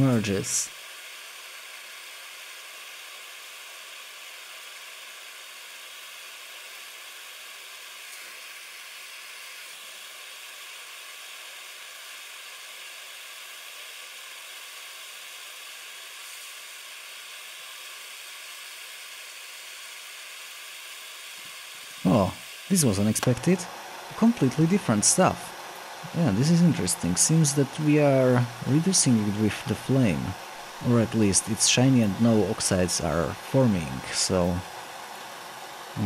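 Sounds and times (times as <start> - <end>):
gas flame hissing: 0.0 - 36.0.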